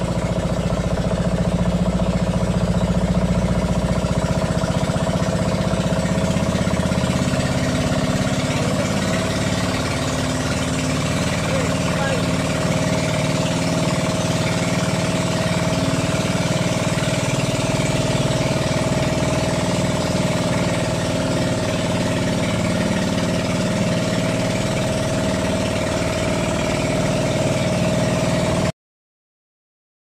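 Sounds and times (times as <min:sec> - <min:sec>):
small boat engine droning: 0:00.0 - 0:28.7.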